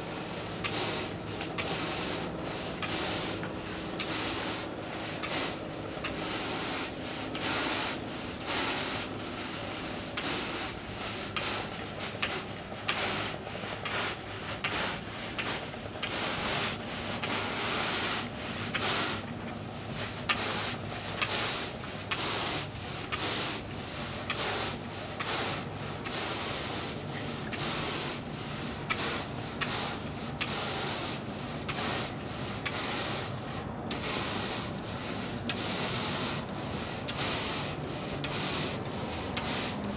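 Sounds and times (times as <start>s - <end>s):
broom scrubbing artificial turf: 0.4s - 39.9s.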